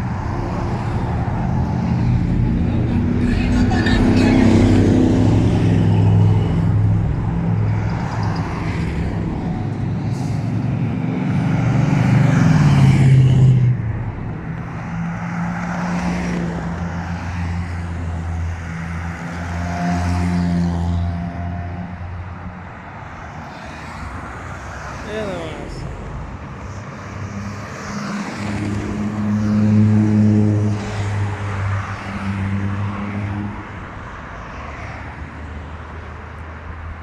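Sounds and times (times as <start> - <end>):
trucks driving past: 0.0 - 34.3.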